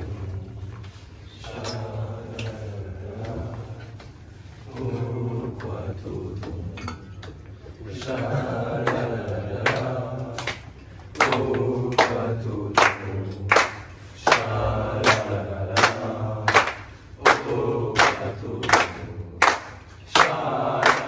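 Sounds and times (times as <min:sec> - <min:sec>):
men chanting together: 0:01.3 - 0:07.0, 0:07.7 - 0:21.0
men clapping in unison: 0:01.9 - 0:21.0.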